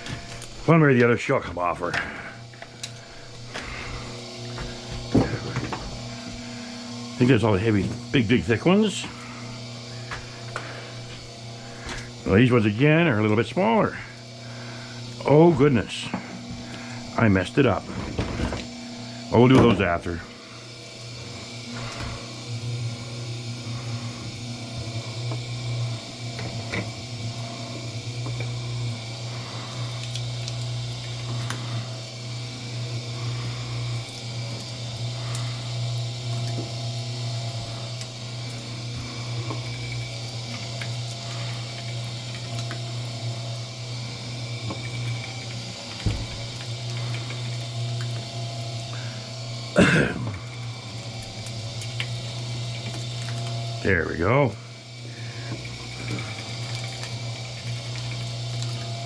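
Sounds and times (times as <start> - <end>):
machine motor humming: 0.0 - 59.0.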